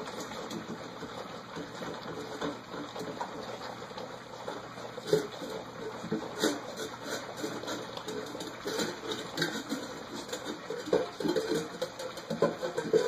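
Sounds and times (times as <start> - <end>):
puppies lapping milk: 0.0 - 13.0.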